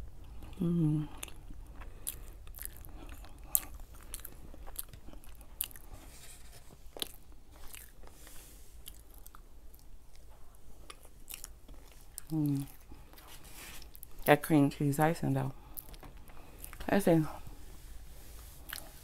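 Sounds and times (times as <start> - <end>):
person chewing cake: 0.0 - 14.4, 15.5 - 17.6, 18.3 - 19.0.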